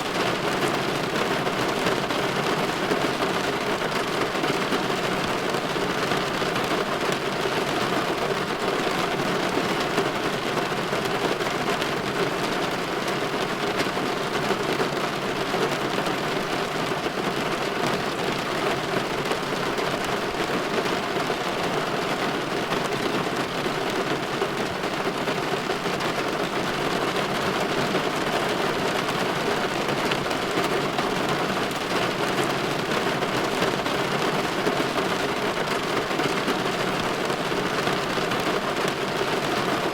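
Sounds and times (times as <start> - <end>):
rain against a window: 0.0 - 39.9.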